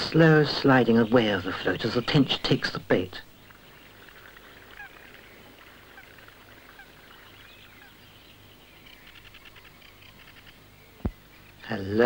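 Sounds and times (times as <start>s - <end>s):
bird chirps: 0.2s - 11.8s.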